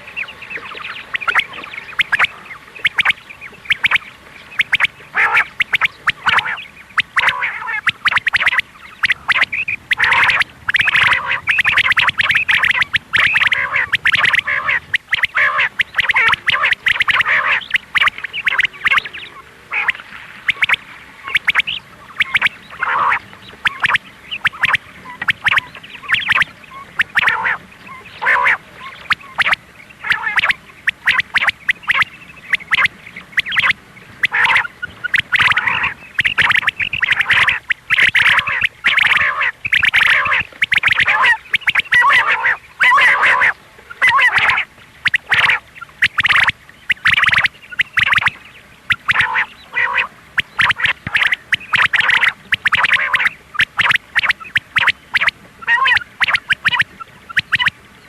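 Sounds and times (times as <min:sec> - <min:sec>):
quail calling: 0:00.0 - 0:57.8.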